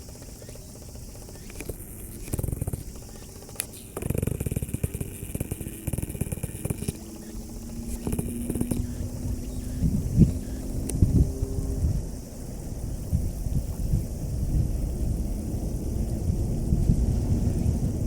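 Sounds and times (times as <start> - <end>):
engine pulsing rumble: 0.0 - 18.0
steady hum: 0.0 - 18.0.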